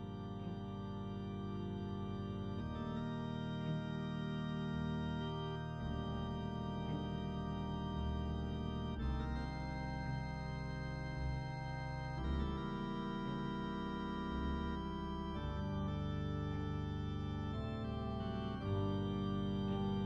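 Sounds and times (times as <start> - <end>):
sustained organ chords: 0.0 - 20.0.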